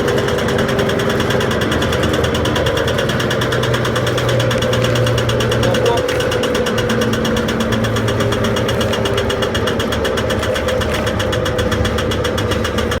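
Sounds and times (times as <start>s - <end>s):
branch chipper clattering: 0.0s - 13.0s
tractor engine running: 0.0s - 13.0s.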